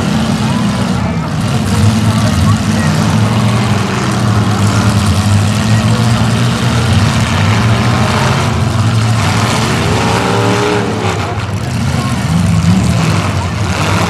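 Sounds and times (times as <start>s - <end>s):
car engine revving: 0.0s - 14.0s
car engines running loudly: 0.0s - 14.0s.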